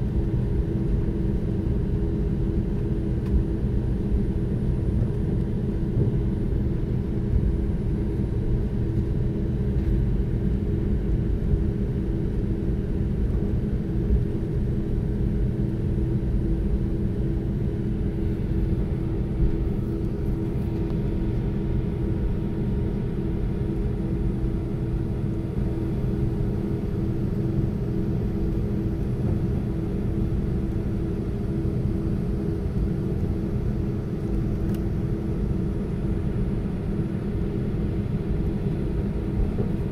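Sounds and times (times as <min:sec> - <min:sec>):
aircraft engines rumbling: 0:00.0 - 0:39.9.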